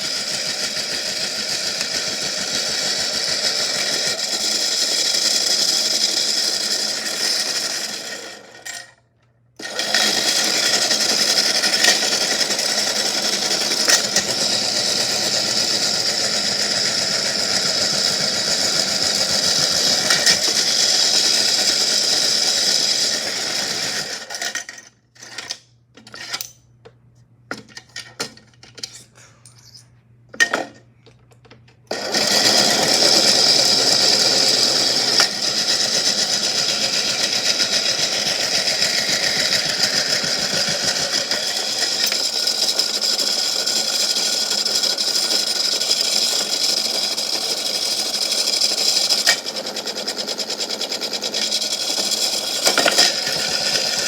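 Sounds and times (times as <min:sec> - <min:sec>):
washing machine motor whir: 0:00.0 - 0:09.0, 0:09.6 - 0:24.6, 0:31.9 - 0:54.0.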